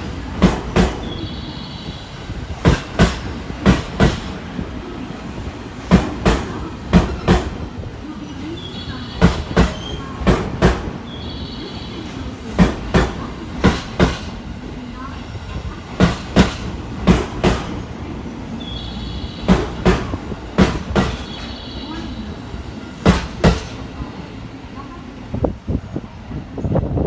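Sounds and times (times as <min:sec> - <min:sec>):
train wheels clacking over rail joints: 0:00.0 - 0:01.3, 0:02.5 - 0:24.1
train rumble: 0:00.0 - 0:27.0.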